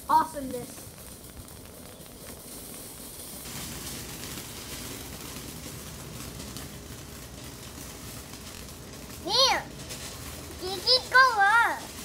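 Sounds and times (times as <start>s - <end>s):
faint firework crackles: 0.0s - 12.0s
firework spraying sparks hiss: 0.0s - 12.0s.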